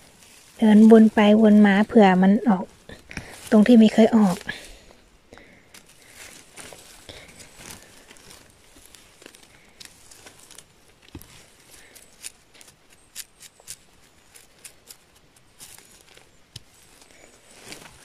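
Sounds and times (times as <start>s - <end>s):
leaves and moss rustling: 0.0s - 18.0s.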